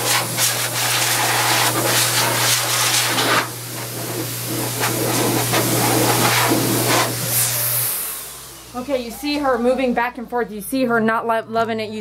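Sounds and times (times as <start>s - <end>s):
dryer air rushing: 0.0s - 10.5s
dryer motor hum: 0.0s - 11.2s.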